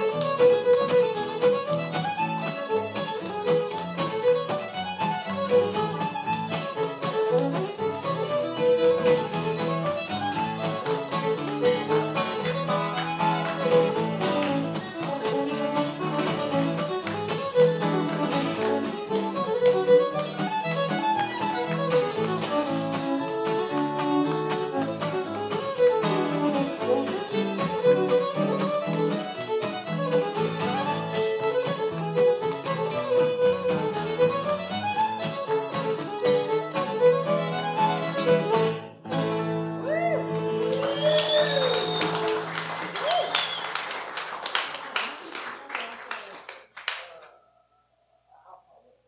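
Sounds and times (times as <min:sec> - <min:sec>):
acoustic guitar strumming: 0:00.0 - 0:40.8
fiddle melody: 0:00.0 - 0:42.6.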